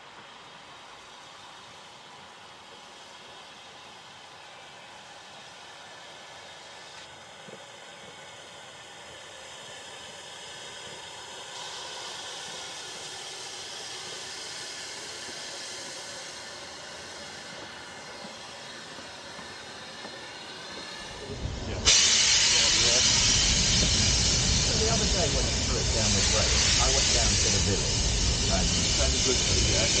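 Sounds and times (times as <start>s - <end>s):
steam locomotive hissing steam: 0.0s - 30.0s.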